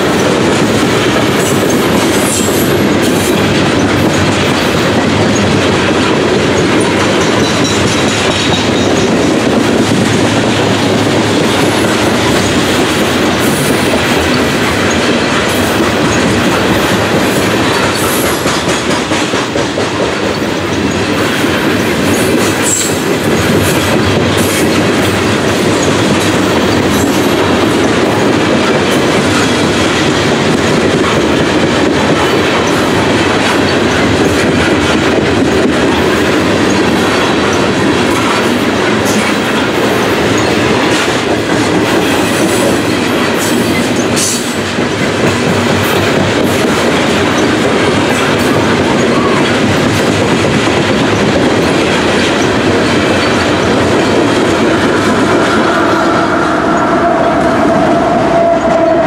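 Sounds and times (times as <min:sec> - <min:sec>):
steel wheels running on rail: 0:00.0 - 0:59.0.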